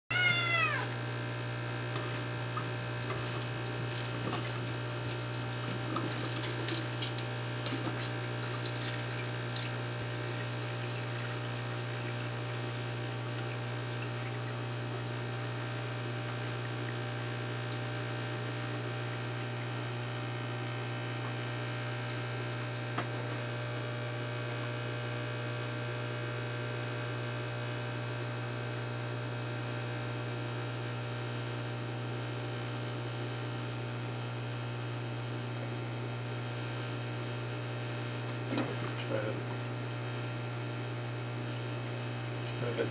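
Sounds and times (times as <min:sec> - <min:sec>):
low electrical hum: 0:00.1 - 0:42.9.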